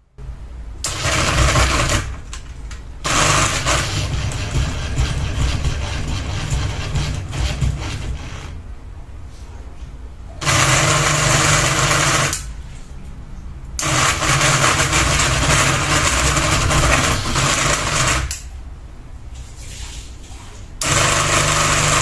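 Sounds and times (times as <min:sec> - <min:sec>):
ceiling fan motor hum: 0:00.0 - 0:22.0
fan mechanical rattle: 0:00.0 - 0:22.0.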